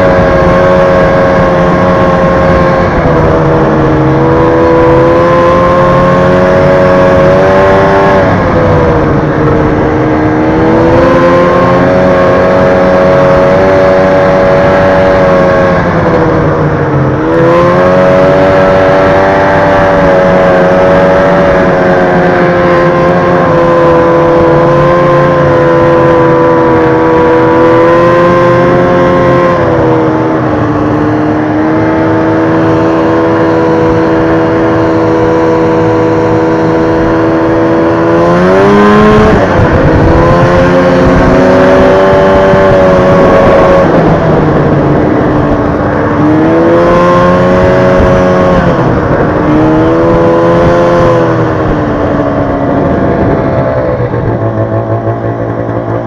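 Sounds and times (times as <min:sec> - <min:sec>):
snowmobile engine running hard: 0:00.0 - 0:56.0.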